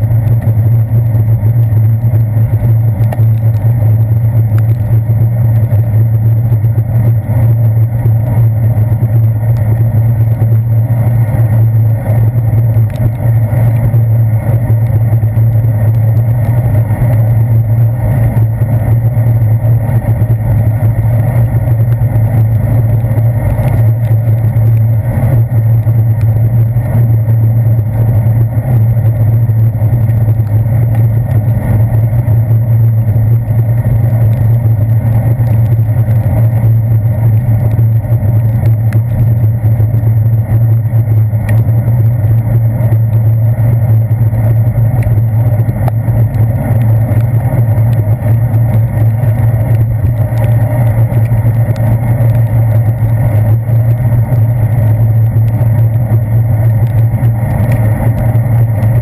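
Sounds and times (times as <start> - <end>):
wind and road vibration drone: 0.0 - 59.0.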